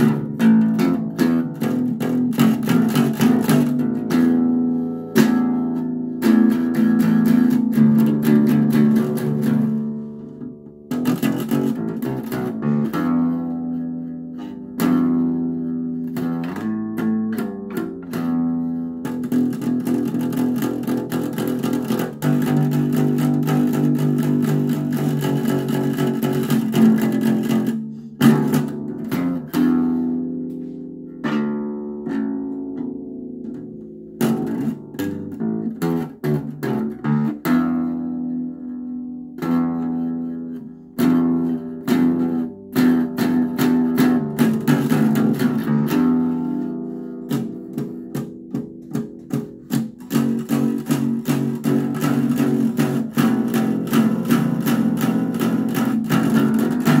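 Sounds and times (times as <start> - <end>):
acoustic bass guitar plucked: 0.0 - 57.0.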